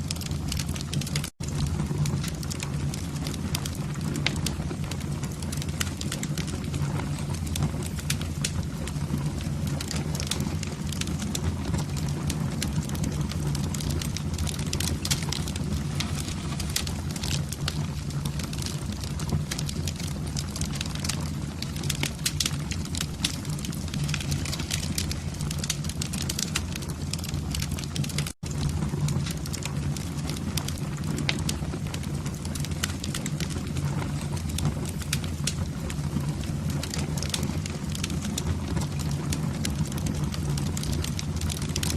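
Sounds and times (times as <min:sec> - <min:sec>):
low rumble of flames: 0:00.0 - 0:41.9
wood fire crackling and popping: 0:00.0 - 0:41.9.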